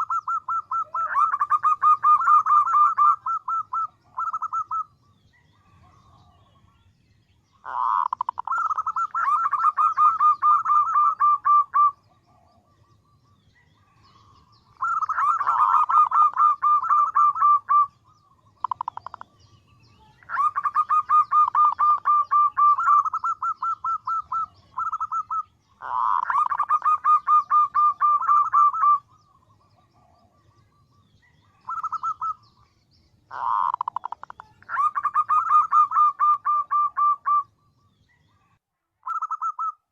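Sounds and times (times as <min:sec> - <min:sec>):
dove calling: 0:00.0 - 0:39.9.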